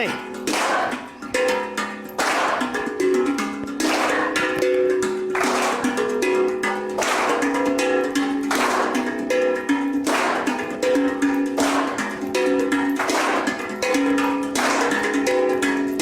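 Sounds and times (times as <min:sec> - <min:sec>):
group clapping together: 0:00.0 - 0:16.0
plucked string melody: 0:00.0 - 0:16.0.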